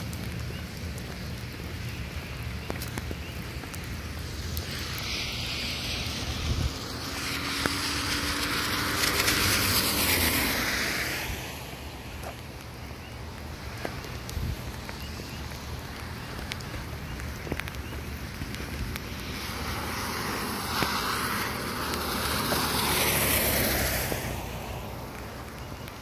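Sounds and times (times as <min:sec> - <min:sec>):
rain falling: 0:00.0 - 0:26.0
tyres hissing on wet road: 0:00.0 - 0:26.0.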